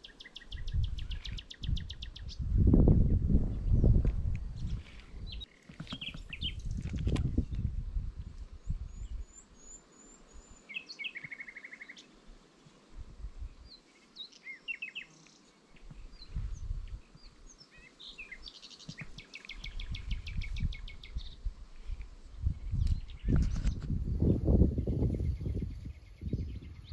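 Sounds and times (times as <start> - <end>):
songbirds singing: 0.0 - 12.2, 13.4 - 26.9.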